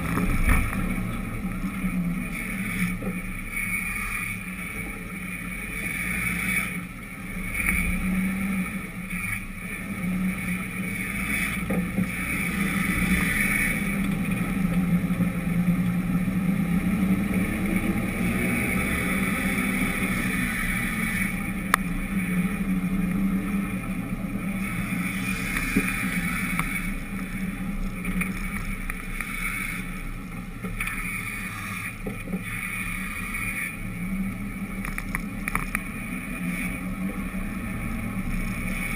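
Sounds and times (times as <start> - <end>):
low drone with rumble: 0.0 - 38.9.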